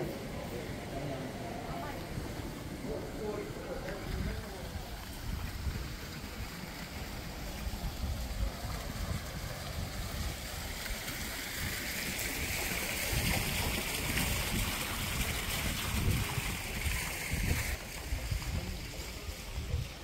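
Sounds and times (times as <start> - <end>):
fountain water splashing: 0.0 - 20.0
wind rumbling on microphone: 0.0 - 20.0.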